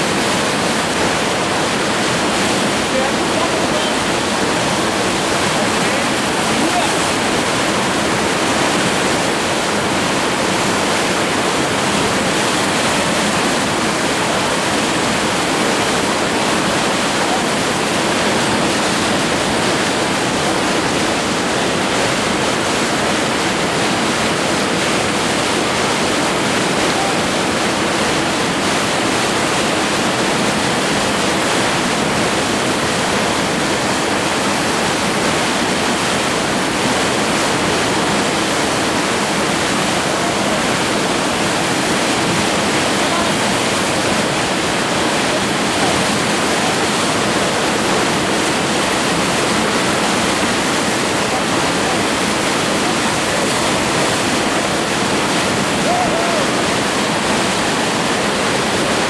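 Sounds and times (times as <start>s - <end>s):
whitewater rapids rushing: 0.0s - 59.0s.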